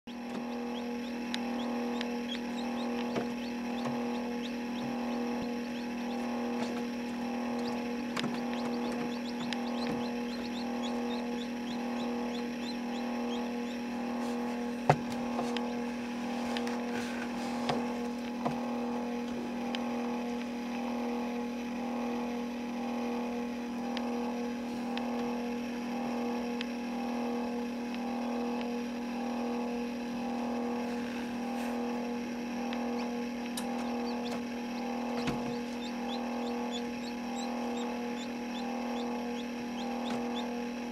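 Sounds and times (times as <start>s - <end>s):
fan motor humming: 0.0s - 40.9s.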